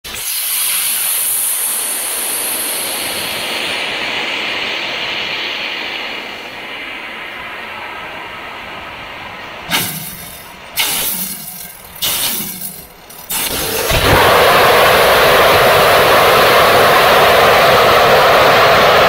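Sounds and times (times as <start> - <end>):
steady rushing hiss: 0.1 - 19.0.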